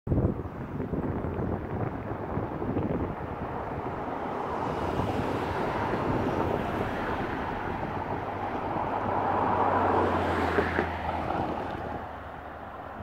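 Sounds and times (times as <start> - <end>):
low engine hum: 0.1 - 13.0
road traffic passing: 0.1 - 13.0.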